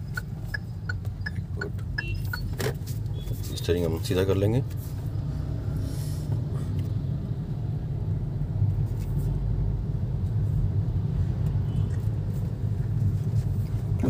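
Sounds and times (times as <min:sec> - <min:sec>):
car cabin engine and road rumble: 0:00.0 - 0:14.0.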